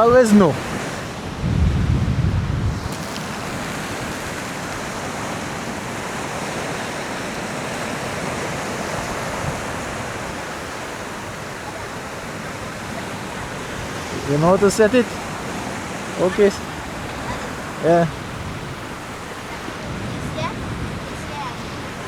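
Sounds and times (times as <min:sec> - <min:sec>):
ocean surf washing against rocks: 0:00.0 - 0:22.0.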